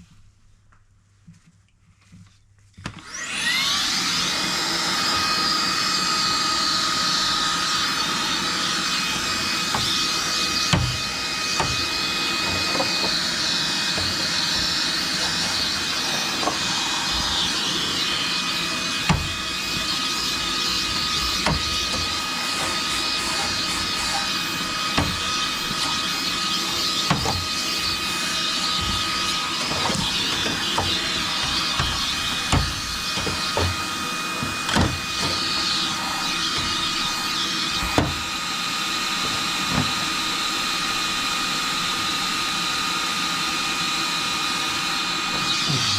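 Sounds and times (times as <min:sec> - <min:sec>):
small electric motor whining: 0:03.0 - 0:40.3.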